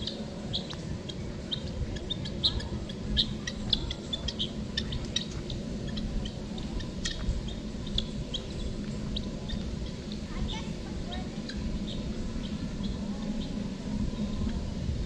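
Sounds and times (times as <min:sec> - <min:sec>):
small birds chirping: 0:00.0 - 0:14.8
low background rumble: 0:00.0 - 0:15.0.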